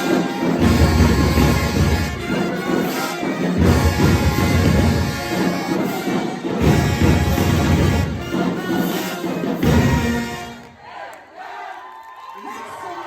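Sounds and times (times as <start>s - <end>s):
marching band brass and drums: 0.0s - 11.1s.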